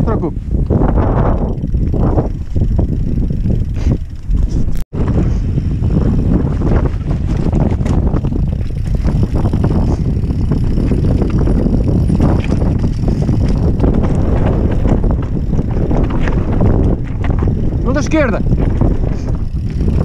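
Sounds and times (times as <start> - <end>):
wind buffeting microphone: 0.0 - 20.0
bike tyres on dirt: 0.3 - 20.0
bike clicks and rattles: 0.5 - 20.0.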